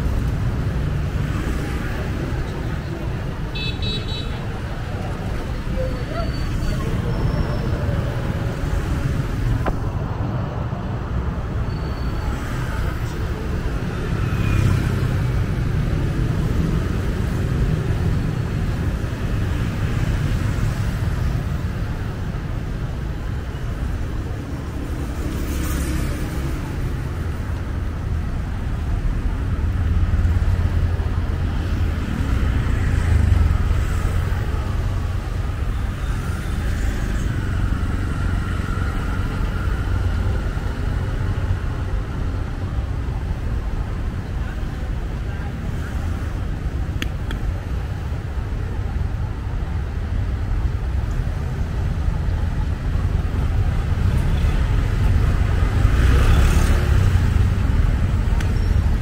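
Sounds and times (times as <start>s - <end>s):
motorbikes and cars passing: 0.0s - 59.0s.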